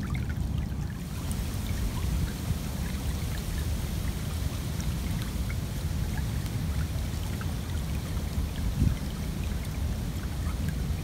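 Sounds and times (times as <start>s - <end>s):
small stream trickling: 0.0s - 11.0s
wind rumble on microphone: 0.0s - 11.0s.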